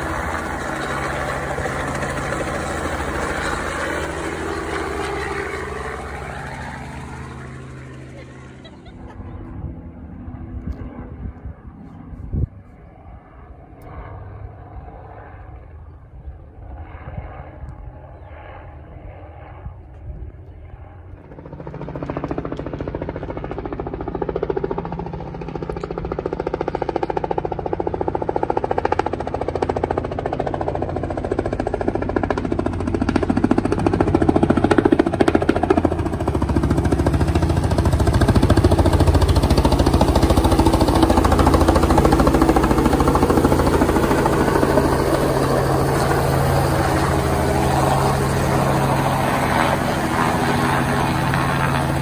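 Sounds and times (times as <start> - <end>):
helicopter engine: 0.0 - 52.0
helicopter rotor blades: 0.0 - 52.0.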